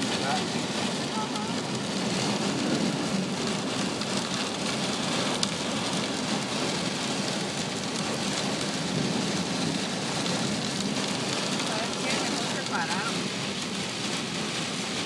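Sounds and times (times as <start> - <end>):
heavy rain on car: 0.0 - 15.0.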